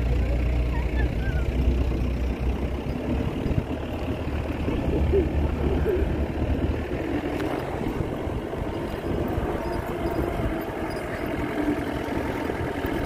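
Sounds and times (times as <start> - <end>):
jeep engine rumbling: 0.0 - 13.0.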